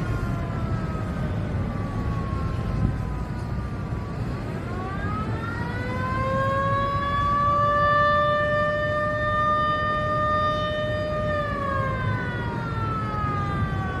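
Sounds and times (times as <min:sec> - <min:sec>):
warning siren wailing: 0:00.0 - 0:14.0.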